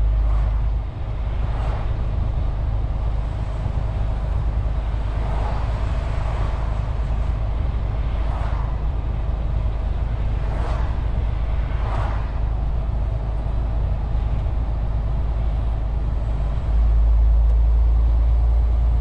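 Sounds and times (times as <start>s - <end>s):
diesel truck engine rumble: 0.0s - 19.0s
road noise: 0.0s - 19.0s.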